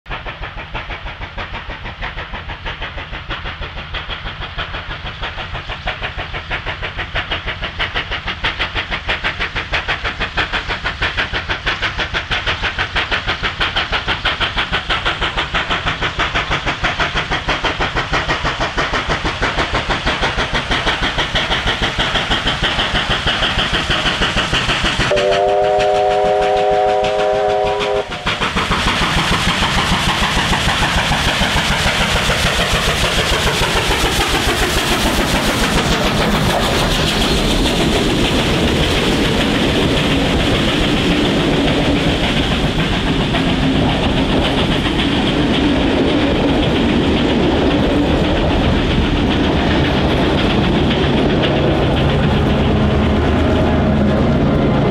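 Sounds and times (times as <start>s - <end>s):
steam locomotive exhaust chuffs: 0.1s - 54.9s.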